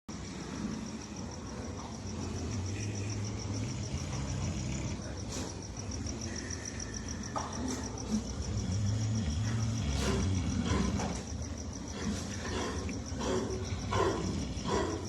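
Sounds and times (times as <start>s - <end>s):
pig snoring: 0.1s - 15.0s.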